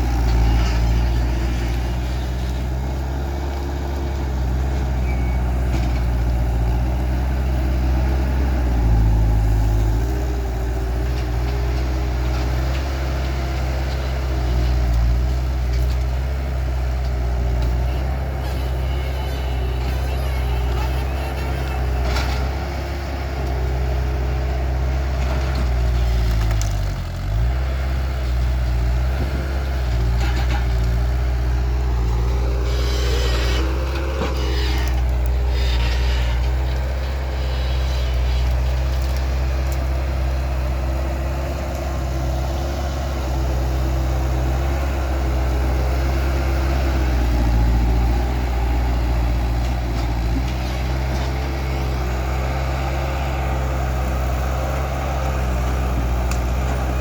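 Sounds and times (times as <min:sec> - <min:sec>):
diesel engine running: 0:00.0 - 0:57.0
engine whine: 0:00.0 - 0:57.0.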